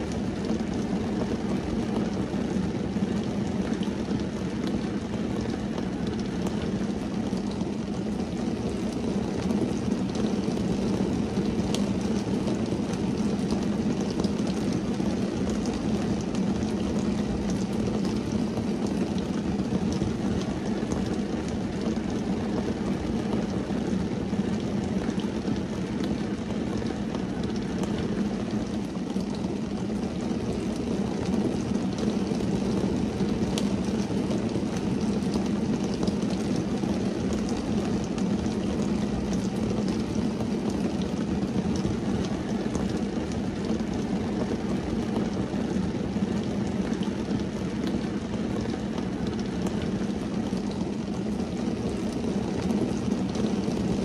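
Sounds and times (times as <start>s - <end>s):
rain on car windscreen and roof: 0.0s - 54.0s.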